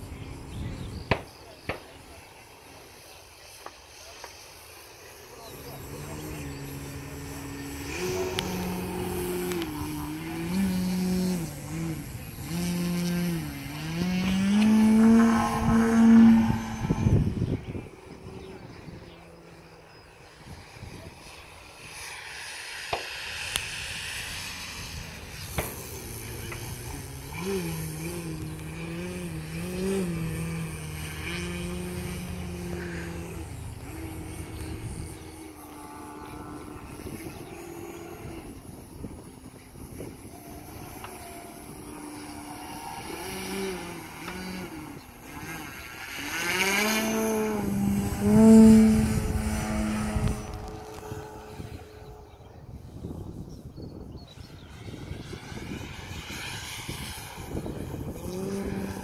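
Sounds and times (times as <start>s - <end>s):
model plane electric motor buzzing: 0.0s - 59.0s.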